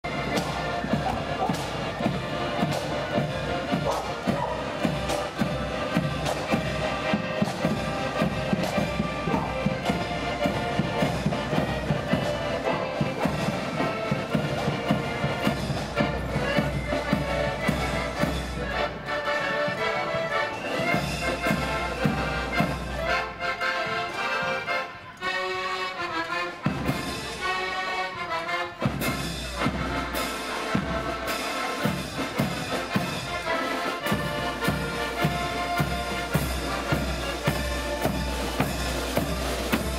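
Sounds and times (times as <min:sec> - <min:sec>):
marching drums: 0:00.0 - 0:24.7, 0:26.6 - 0:27.5, 0:28.3 - 0:39.9
accordions playing: 0:00.0 - 0:39.9.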